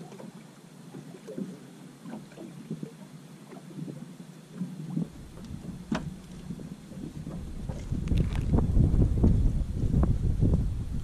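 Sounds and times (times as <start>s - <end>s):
waves lapping against boat hull: 0.0s - 11.0s.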